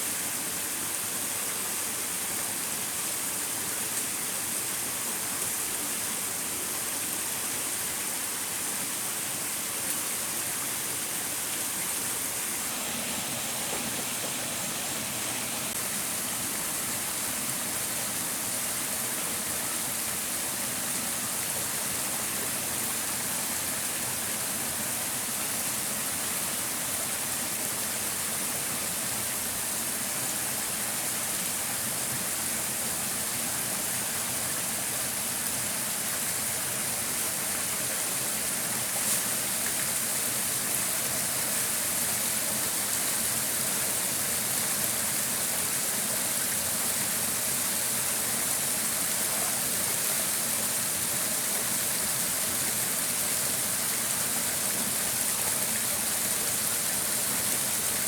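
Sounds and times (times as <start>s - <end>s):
stream water over stones: 0.0s - 58.0s.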